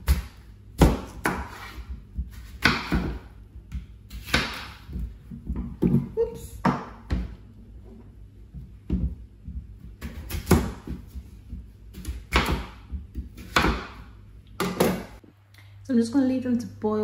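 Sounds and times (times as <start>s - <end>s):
sharp knocks and bangs in kitchen: 0.0s - 7.4s, 8.6s - 15.2s.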